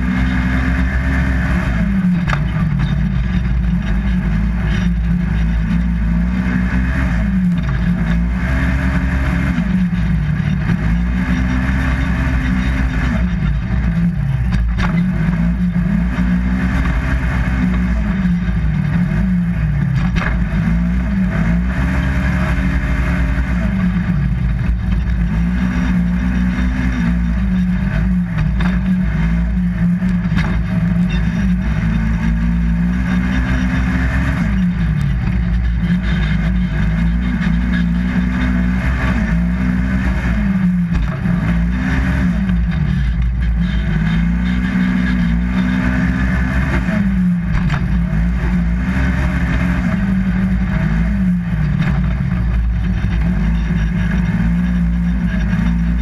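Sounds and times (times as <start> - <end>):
engine revving: 0.0 - 56.0.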